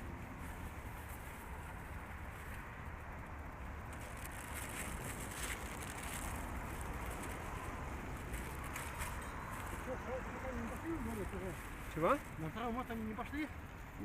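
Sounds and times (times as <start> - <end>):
distant road traffic rumble: 0.0 - 14.0
faint rustling and crackling: 0.0 - 14.0.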